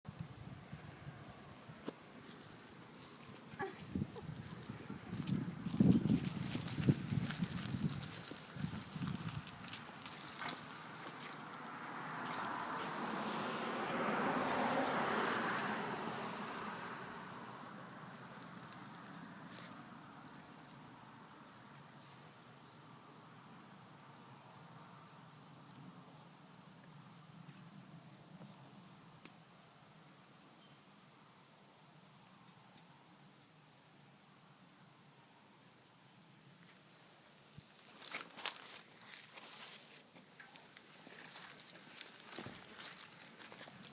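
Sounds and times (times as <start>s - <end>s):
insects chirping: 0.1s - 43.9s.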